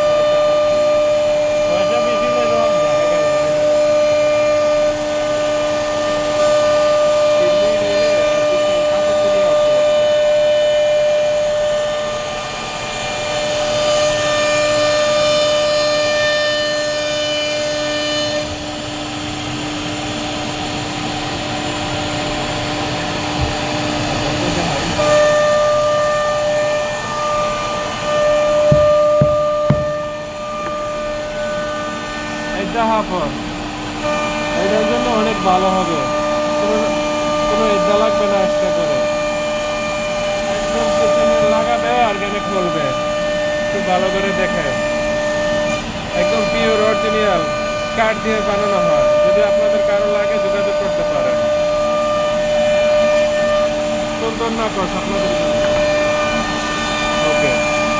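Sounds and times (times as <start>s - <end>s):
router spindle whining: 0.0s - 57.9s.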